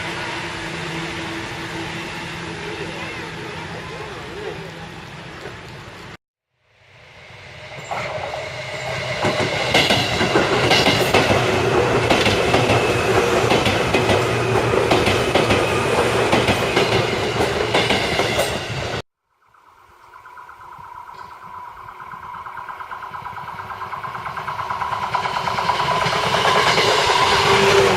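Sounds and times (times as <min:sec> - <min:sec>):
electric train passing: 0:00.0 - 0:27.9.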